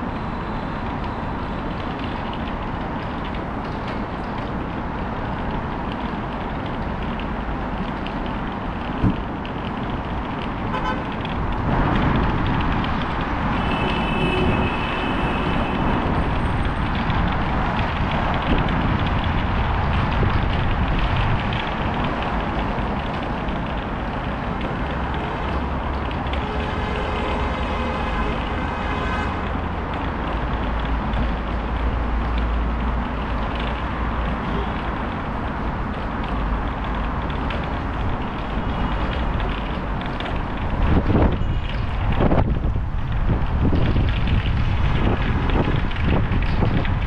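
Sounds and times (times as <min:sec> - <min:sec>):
traffic noise: 0:00.0 - 0:47.0.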